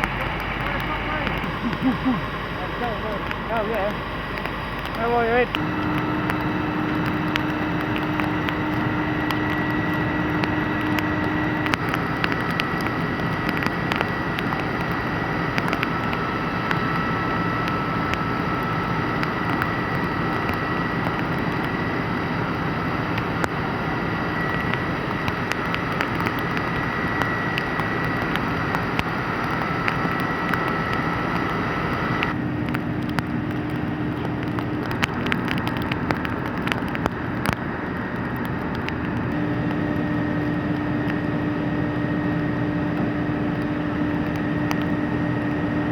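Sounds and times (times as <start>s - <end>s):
engine droning: 0.0s - 45.9s
scattered crackles and clicks: 0.0s - 45.9s.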